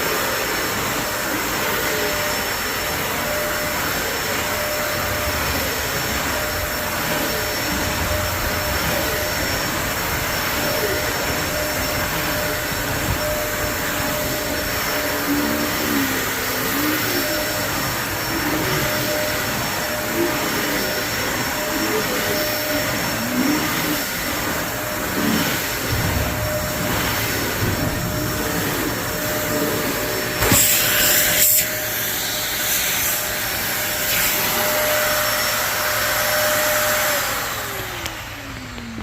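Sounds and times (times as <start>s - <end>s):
high whine: 0.0s - 39.0s
vacuum cleaner running: 0.0s - 39.0s.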